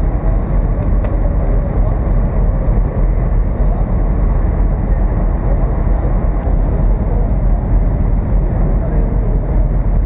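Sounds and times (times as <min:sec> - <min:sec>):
ferry engine rumble: 0:00.0 - 0:10.0
moving water: 0:00.0 - 0:10.0
wind on microphone: 0:00.0 - 0:10.0.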